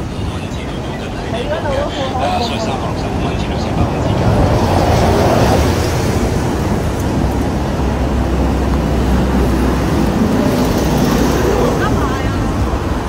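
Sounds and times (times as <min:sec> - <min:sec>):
busy city road traffic: 0:00.0 - 0:13.0.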